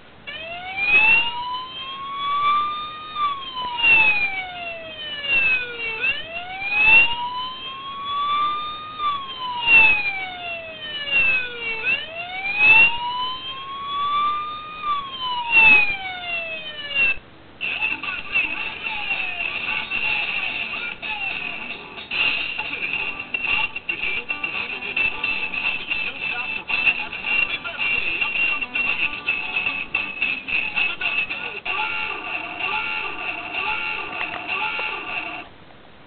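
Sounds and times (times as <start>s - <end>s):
police siren wailing: 0.3s - 23.3s, 26.9s - 35.5s.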